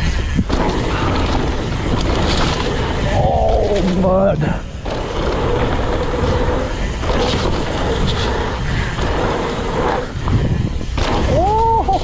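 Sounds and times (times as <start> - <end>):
bike rattling on dirt: 0.0 - 12.0
wind on microphone: 0.0 - 12.0.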